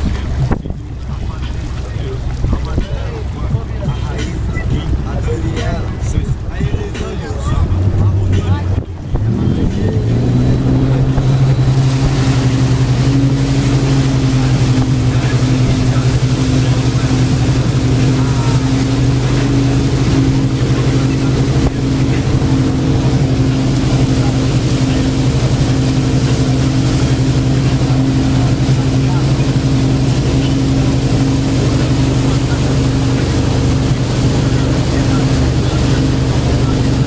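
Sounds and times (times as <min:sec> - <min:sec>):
boat engine running: 0:00.0 - 0:37.0
rush of churning wake: 0:00.0 - 0:37.0.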